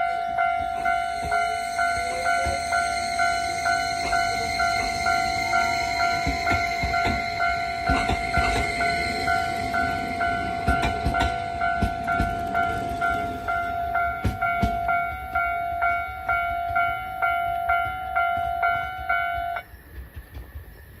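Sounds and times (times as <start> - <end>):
level crossing alarm ringing: 0.0 - 19.6
train wheels knocking: 0.0 - 20.8.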